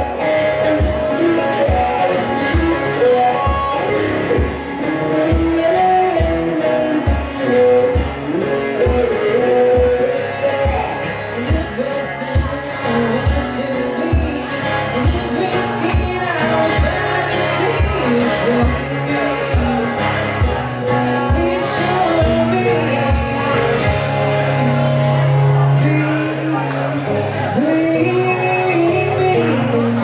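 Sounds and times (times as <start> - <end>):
acoustic guitar strumming: 0.0 - 30.0
person singing: 0.0 - 30.0.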